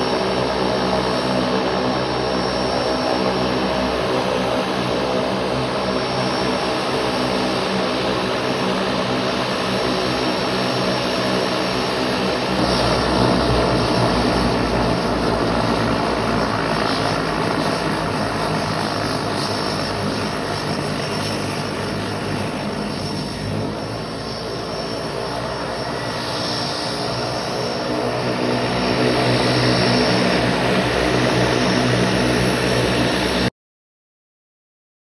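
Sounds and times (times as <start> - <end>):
floatplane propeller engine running: 0.0 - 33.5.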